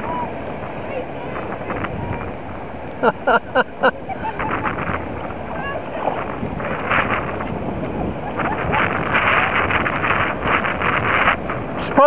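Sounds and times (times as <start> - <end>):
seawater sloshing around kayak: 0.0 - 12.0
wind on microphone: 0.0 - 12.0.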